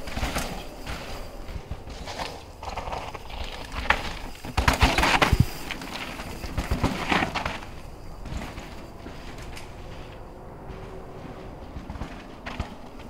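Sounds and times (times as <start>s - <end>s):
bike clattering: 0.0s - 13.0s
bike tyres crunching on dirt: 0.0s - 13.0s.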